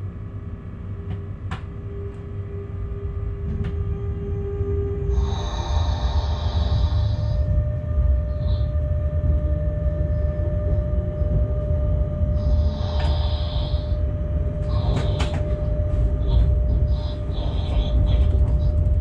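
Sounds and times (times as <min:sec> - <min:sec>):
locomotive rumble: 0:00.8 - 0:19.0.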